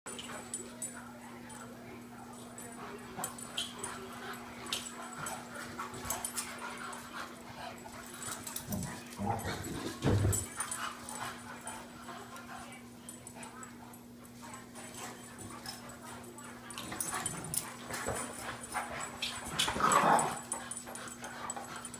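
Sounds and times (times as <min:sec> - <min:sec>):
steady low hum: 0:00.1 - 0:21.9.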